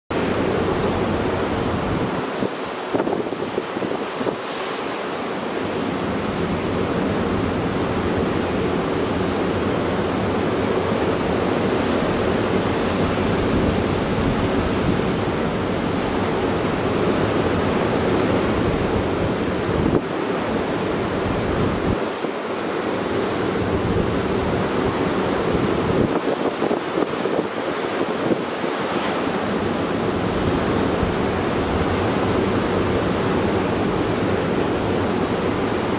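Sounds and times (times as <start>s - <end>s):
surf breaking on beach: 0.1s - 35.9s
wind on microphone: 0.1s - 35.9s.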